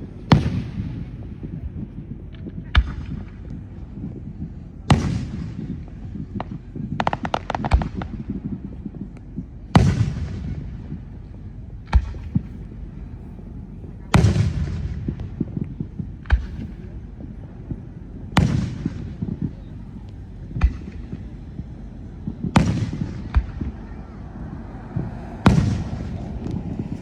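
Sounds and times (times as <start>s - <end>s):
fireworks booming: 0.0s - 27.0s
fireworks crackle: 0.0s - 27.0s.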